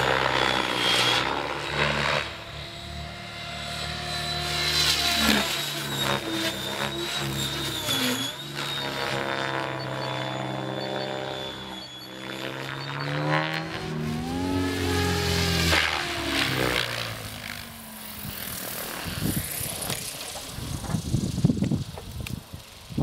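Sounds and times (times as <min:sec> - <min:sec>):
rc helicopter rotor whine: 0:00.0 - 0:23.0.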